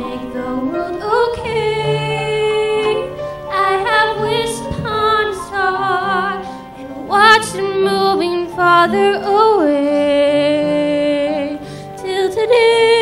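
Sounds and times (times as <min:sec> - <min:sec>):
girl singing a slow ballad: 0:00.0 - 0:13.0
lower musical accompaniment: 0:00.0 - 0:13.0.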